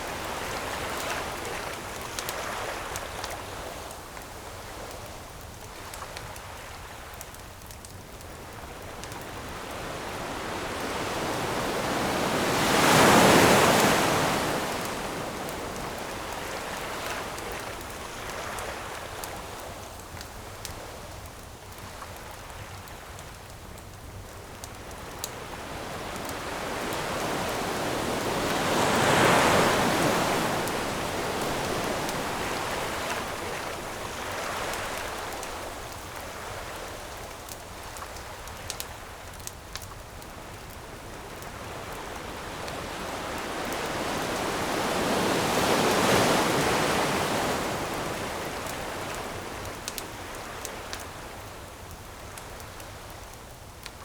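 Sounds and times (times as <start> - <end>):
campfire crackling: 0.0 - 54.0
ocean surf washing on shore: 0.0 - 54.0.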